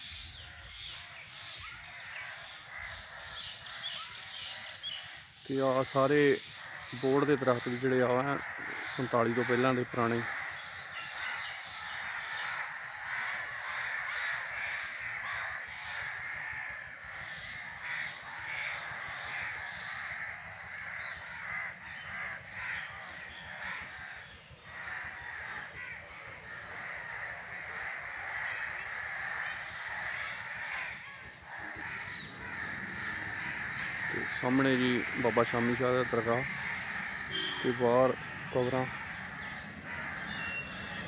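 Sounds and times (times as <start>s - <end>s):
crows cawing: 0.0s - 41.0s.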